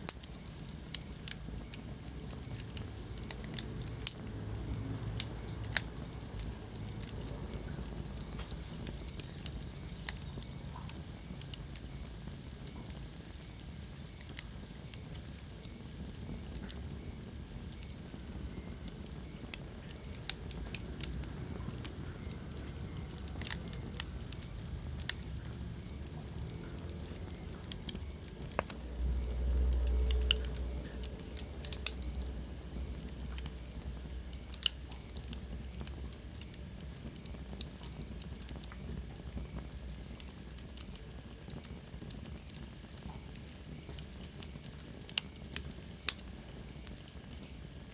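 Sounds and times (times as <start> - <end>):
fire crackles and pops: 0.0 - 47.9
fire flames rumbling: 0.0 - 47.9.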